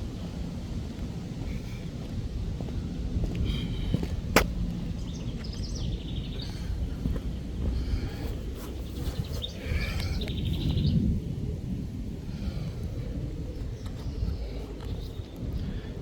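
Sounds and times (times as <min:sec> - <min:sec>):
birds chirping: 0:00.0 - 0:11.2, 0:12.5 - 0:16.0
low outdoor background noise: 0:00.0 - 0:16.0.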